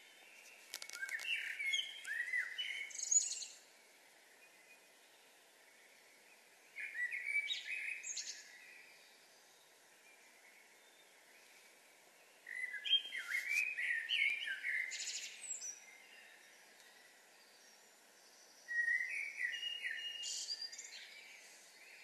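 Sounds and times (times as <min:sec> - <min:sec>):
faint background hiss: 0:00.0 - 0:22.0
songbird singing: 0:00.0 - 0:22.0.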